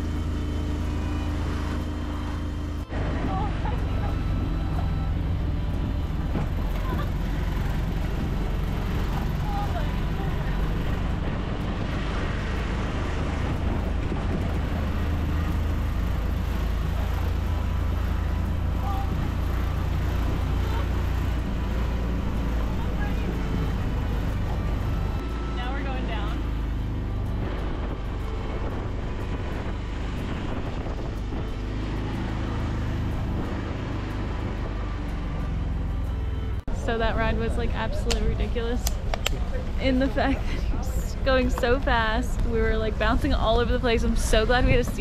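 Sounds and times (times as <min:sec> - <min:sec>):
vehicle rumbling on road: 0:00.0 - 0:45.0
wind buffeting microphone: 0:02.9 - 0:45.0.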